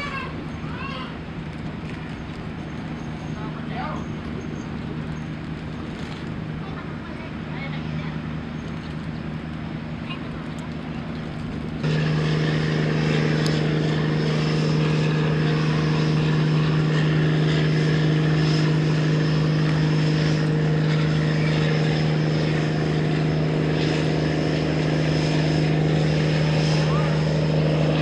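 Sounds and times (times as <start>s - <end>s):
diesel engine deep hum: 0.0s - 28.0s.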